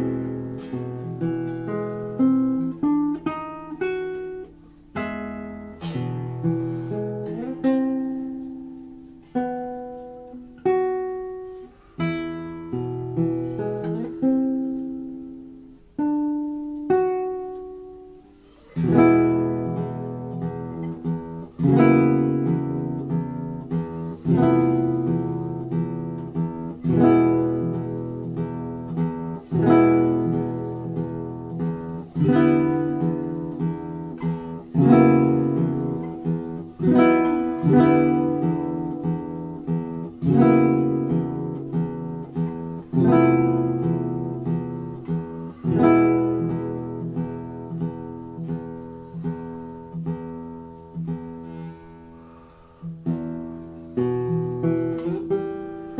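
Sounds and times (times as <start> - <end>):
guitar chords ringing: 0.0 - 55.9.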